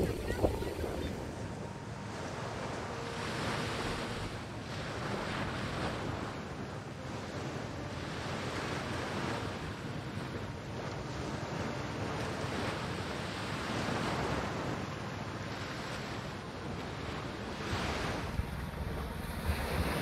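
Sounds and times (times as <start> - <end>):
small waves washing onto shore: 0.0 - 20.0
wind rumbling on microphone: 0.0 - 20.0.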